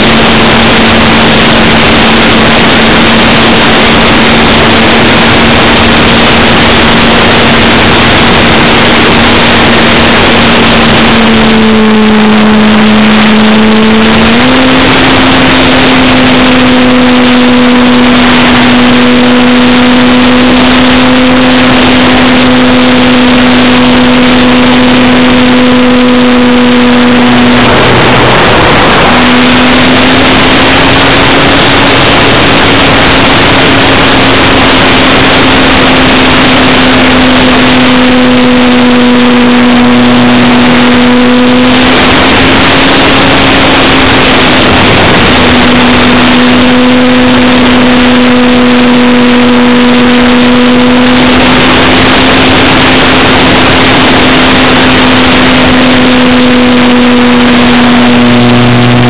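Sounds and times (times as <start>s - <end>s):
model plane motor drone: 0.0s - 59.0s
wind rush on microphone: 0.0s - 59.0s.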